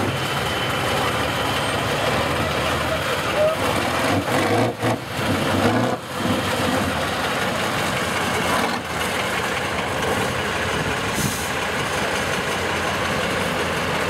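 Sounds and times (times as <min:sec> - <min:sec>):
truck engine running hard: 0:00.0 - 0:14.0.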